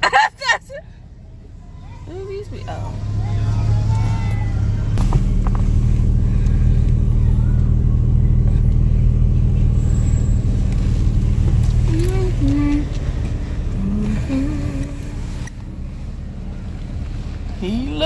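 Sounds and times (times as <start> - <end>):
car engine hum and road noise: 0.0 - 18.0.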